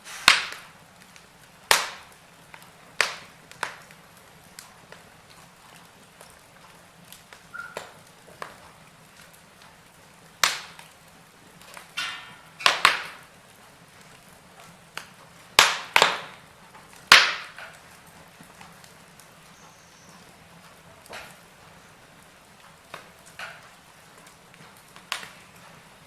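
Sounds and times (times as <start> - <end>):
logs crackling and popping: 0.0 - 26.0.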